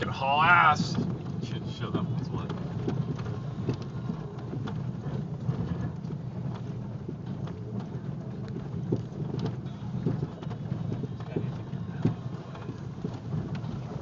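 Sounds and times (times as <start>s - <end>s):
low rumble of engine and tyres: 0.0s - 14.0s.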